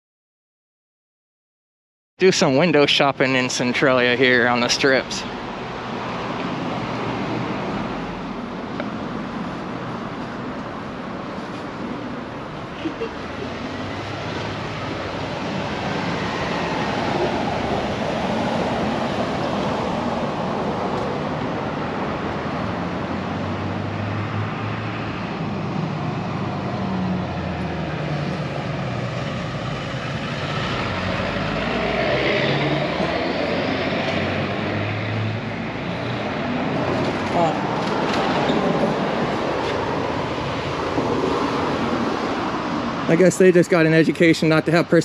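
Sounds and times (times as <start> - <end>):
road traffic noise: 2.2 - 45.0
vehicles passing: 2.2 - 45.0.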